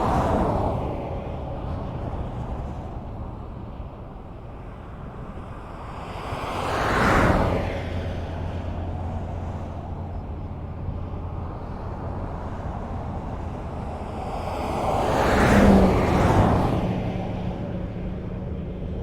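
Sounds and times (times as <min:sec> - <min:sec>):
tyres rumbling on road: 0:00.0 - 0:19.0.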